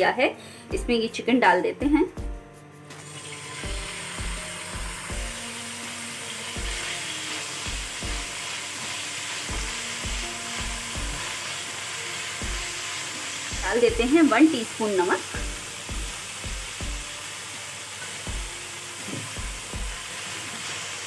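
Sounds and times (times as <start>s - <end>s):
soft background music with beat: 0.0s - 21.0s
chicken sizzling in frying pan: 3.0s - 21.0s.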